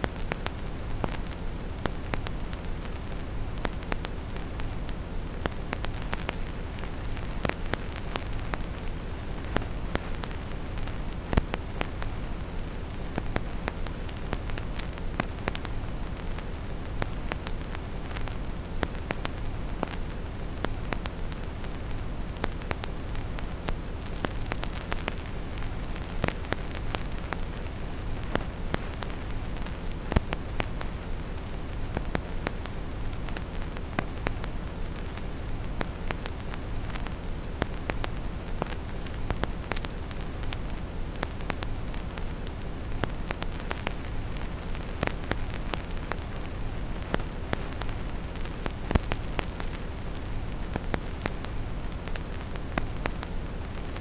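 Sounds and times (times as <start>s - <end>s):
deep noise hiss: 0.0s - 54.0s
vinyl record pops and clicks: 0.0s - 54.0s.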